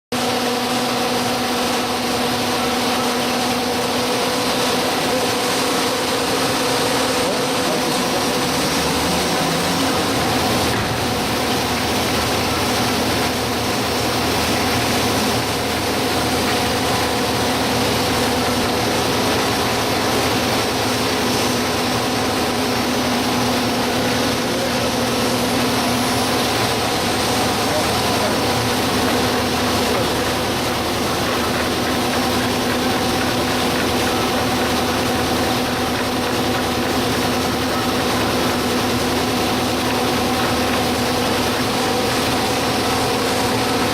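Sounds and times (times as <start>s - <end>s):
winding machine humming: 0.2s - 43.9s.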